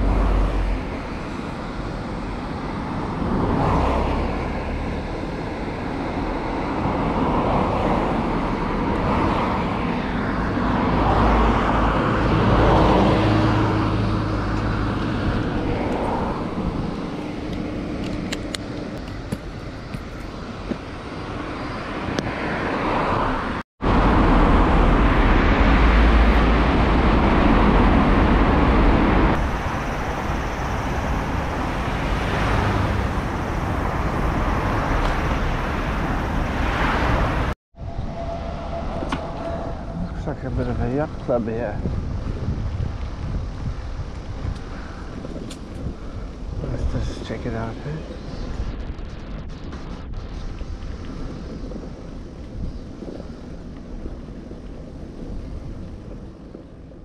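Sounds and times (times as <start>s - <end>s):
road traffic rumbling: 0.0s - 57.0s.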